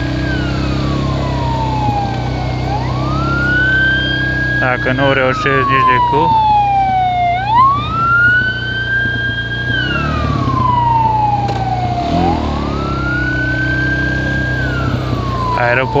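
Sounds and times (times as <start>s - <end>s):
ambulance siren wailing: 0.0s - 16.0s
low engine hum: 0.0s - 16.0s.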